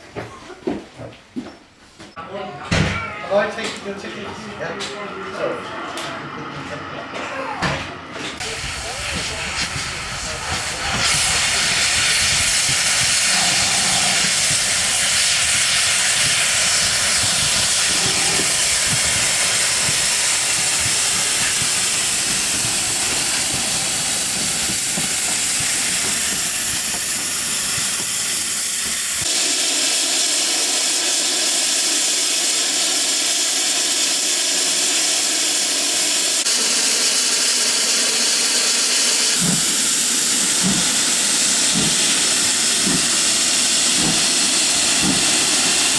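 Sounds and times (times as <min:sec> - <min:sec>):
steam locomotive hissing: 0:03.2 - 0:45.9.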